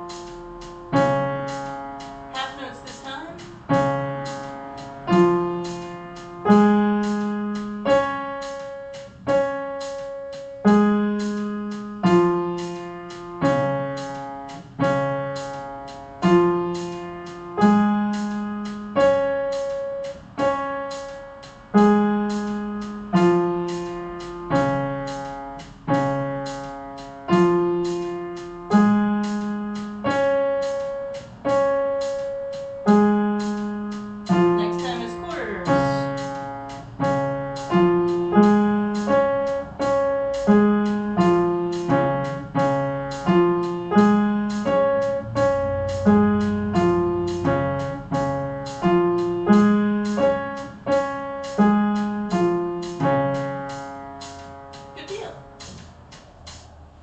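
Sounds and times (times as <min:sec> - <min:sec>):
piano arpeggio: 0:00.0 - 0:56.1.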